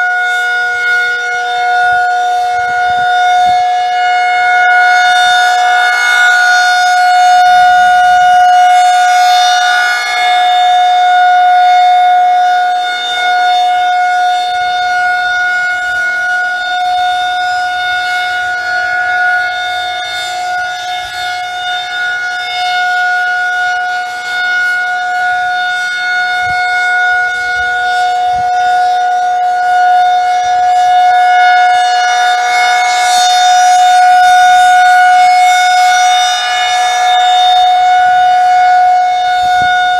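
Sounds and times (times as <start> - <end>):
tornado warning siren steady tone: 0.0 - 39.9.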